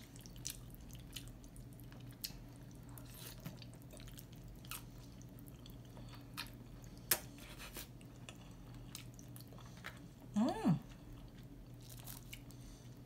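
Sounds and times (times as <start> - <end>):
person chewing: 0.0 - 10.1, 10.9 - 13.0
faint low hum: 0.0 - 13.0.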